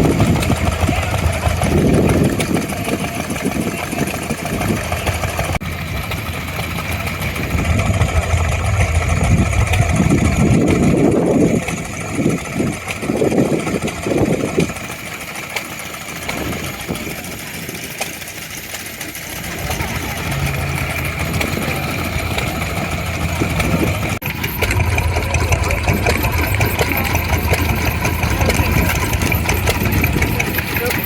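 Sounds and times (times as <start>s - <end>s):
vintage engine running: 0.0s - 31.0s.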